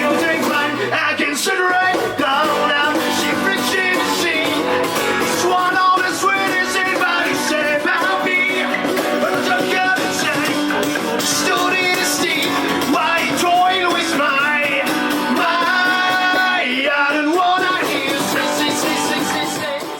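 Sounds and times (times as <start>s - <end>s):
person singing: 0.0s - 19.9s
rock band playing: 0.0s - 19.9s.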